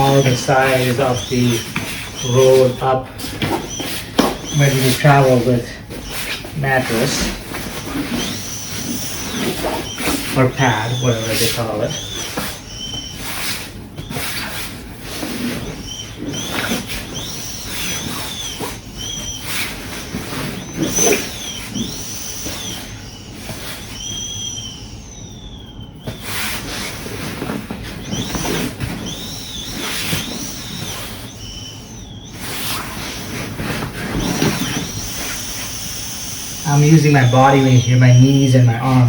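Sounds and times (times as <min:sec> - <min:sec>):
air hissing and squealing from valve: 0:00.0 - 0:39.0.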